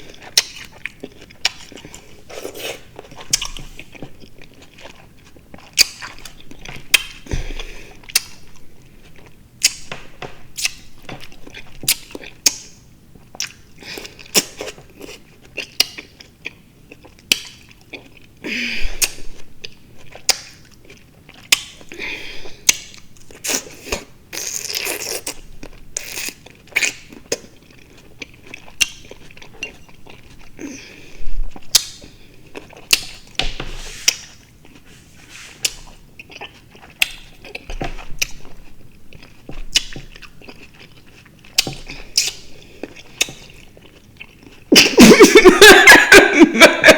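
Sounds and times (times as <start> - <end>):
person chewing juicy fruit: 0.0 - 45.8.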